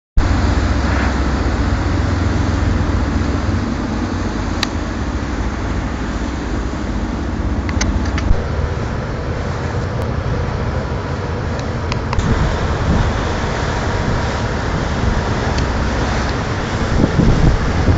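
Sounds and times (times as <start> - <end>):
diesel engine rumble: 0.2 - 17.9
water noise: 0.2 - 17.9
wind: 0.2 - 17.9.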